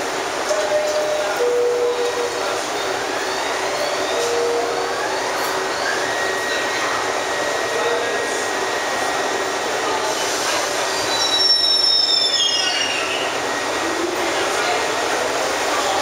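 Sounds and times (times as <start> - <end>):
subway train rumble and hiss: 0.0 - 16.0.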